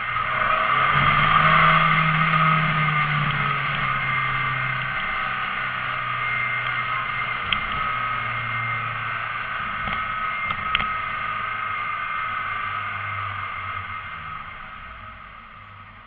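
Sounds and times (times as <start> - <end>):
high-pitched tone: 0.0 - 15.2
car engine droning: 0.0 - 16.0.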